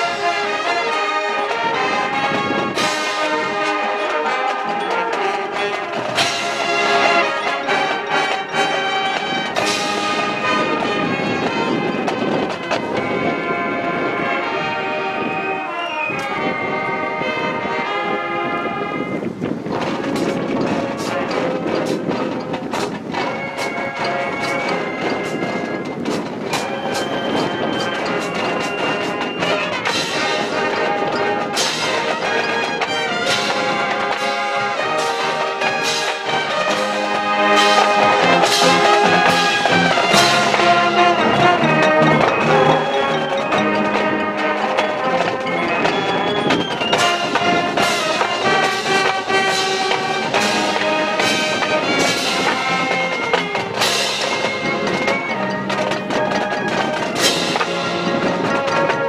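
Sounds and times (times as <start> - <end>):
marching band playing: 0.0 - 59.0.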